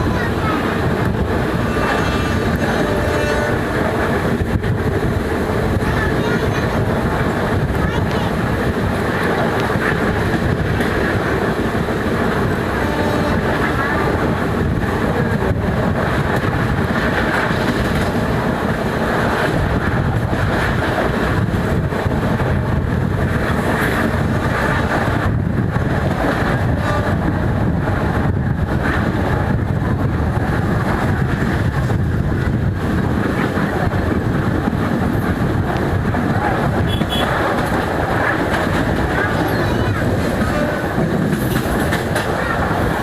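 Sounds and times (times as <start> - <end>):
heavy diesel engine rumbling: 0.0 - 43.0
wind buffeting microphone: 0.0 - 43.0.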